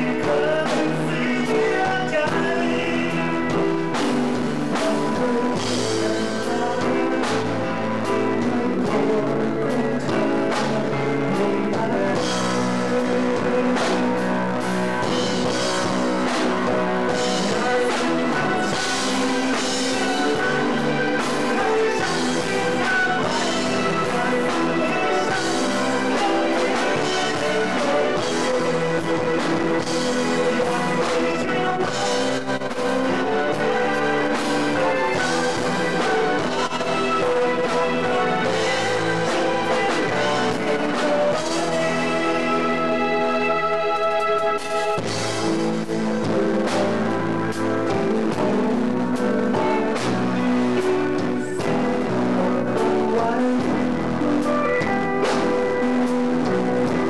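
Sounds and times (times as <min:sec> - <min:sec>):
person singing into microphone: 0:00.0 - 0:57.0
rock band playing live: 0:00.0 - 0:57.0.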